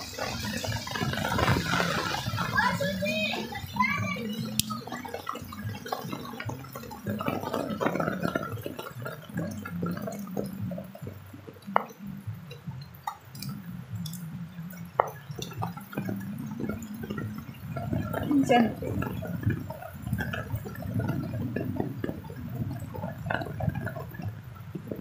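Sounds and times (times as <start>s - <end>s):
rain dripping and pattering: 0.0s - 25.0s
sharp single drips: 2.2s - 25.0s.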